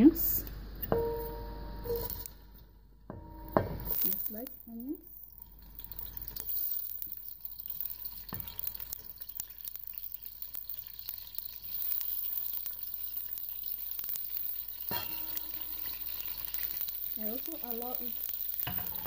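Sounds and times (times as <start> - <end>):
onions sizzling in oil: 0.1 - 2.4, 3.2 - 19.0.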